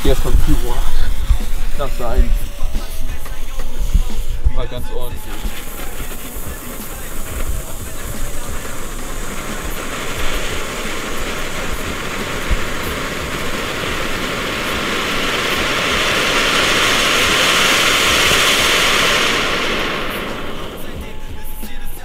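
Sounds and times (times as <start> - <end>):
firework fountain hissing: 0.0 - 22.0.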